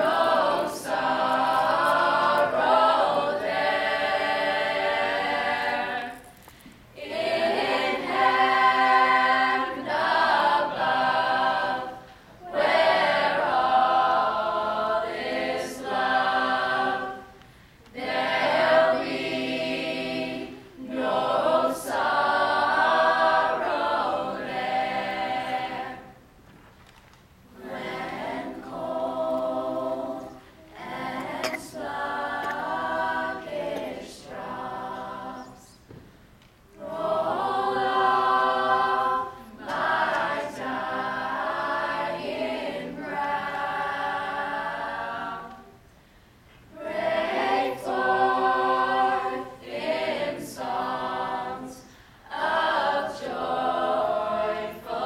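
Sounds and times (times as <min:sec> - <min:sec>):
a cappella group singing in harmony: 0:00.0 - 0:26.5, 0:27.4 - 0:55.0.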